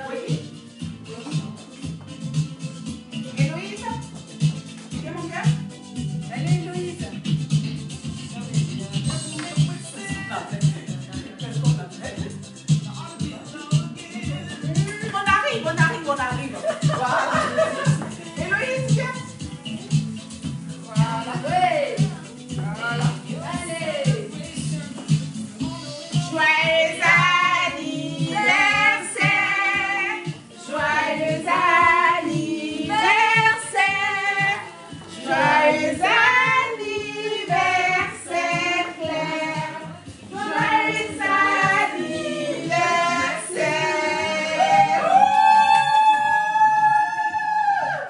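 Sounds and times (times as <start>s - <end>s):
group singing birthday song: 6.2s - 46.2s.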